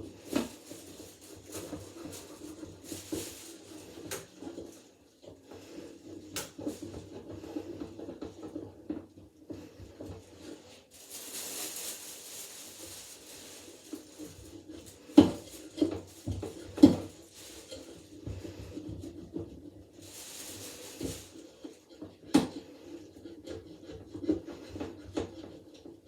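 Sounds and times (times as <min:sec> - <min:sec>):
rubbing and scraping: 0:00.1 - 0:08.9, 0:09.5 - 0:26.0.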